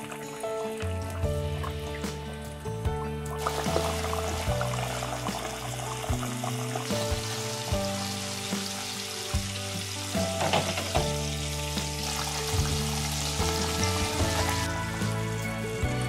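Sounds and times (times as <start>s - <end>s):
oil sizzling and crackling: 0.0s - 16.0s
soft background music: 0.0s - 16.0s.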